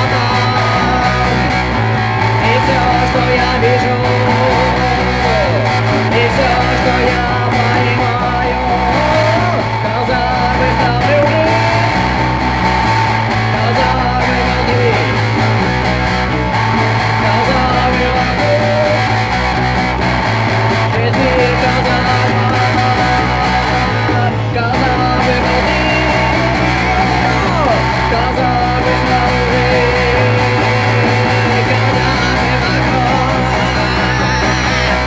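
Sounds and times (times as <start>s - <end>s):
bass line: 0.0s - 35.0s
electric guitar lines: 0.0s - 35.0s.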